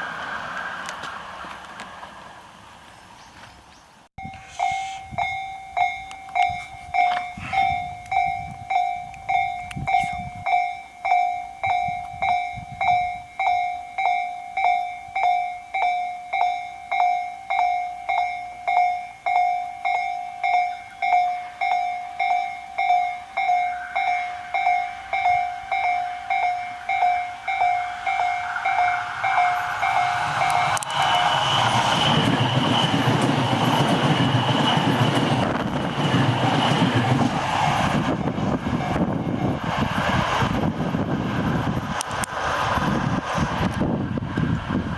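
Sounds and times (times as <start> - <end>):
electric train passing: 0.0 - 44.9
level-crossing warning bell ringing: 4.2 - 41.8.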